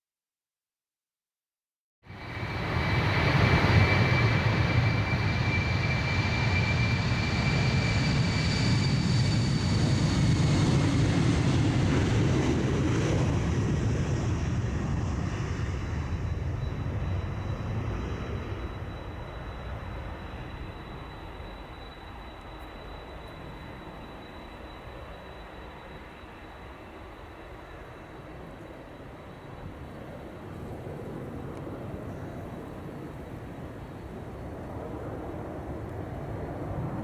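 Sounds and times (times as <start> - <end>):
jet engine roar and whine: 2.1 - 37.0.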